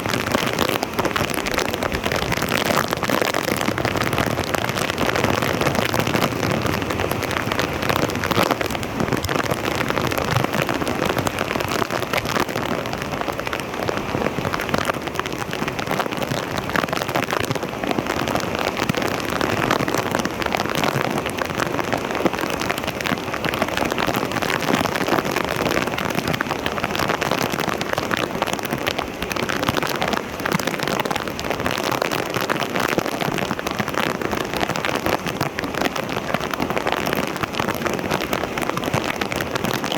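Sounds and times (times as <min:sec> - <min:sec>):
water splashing: 0:00.0 - 0:39.9.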